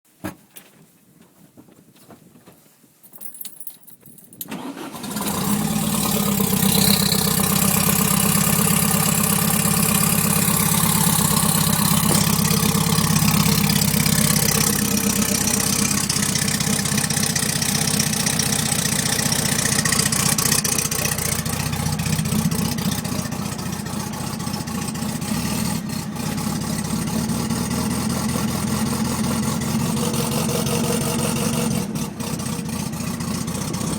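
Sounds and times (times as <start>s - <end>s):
car engine idling roughly: 4.7s - 33.9s.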